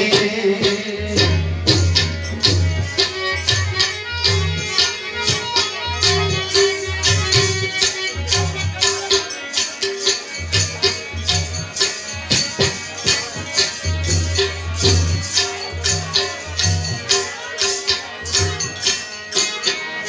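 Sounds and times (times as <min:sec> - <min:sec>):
hand drum: 0:00.0 - 0:20.0
harmonium reed note: 0:00.0 - 0:20.0
jingling hand percussion: 0:00.0 - 0:20.0.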